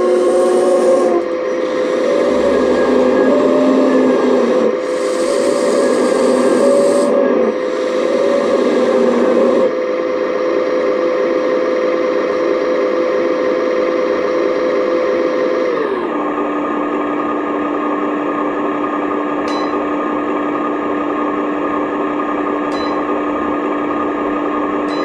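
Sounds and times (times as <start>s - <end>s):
model excavator motor whine: 0.0s - 25.0s.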